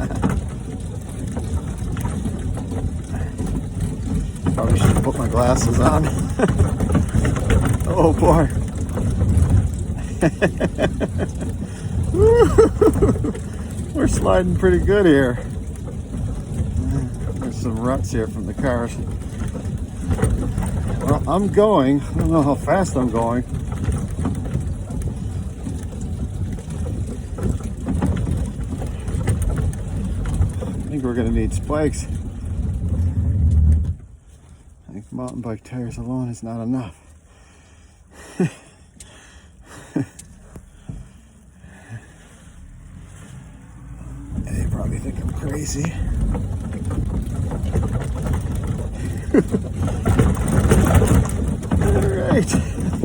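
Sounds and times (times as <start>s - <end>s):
crunching knocks: 0.0s - 34.1s, 44.2s - 53.0s
tyres ploughing through snow: 0.0s - 53.0s.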